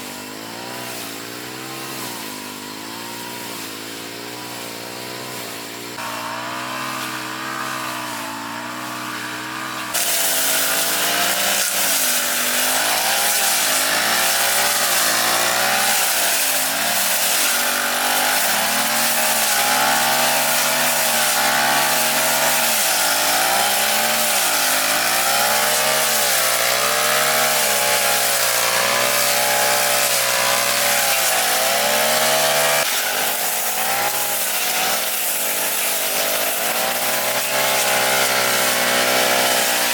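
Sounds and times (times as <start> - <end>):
grass cutter engine running: 0.0 - 39.9
grass cutting hiss: 0.0 - 39.9.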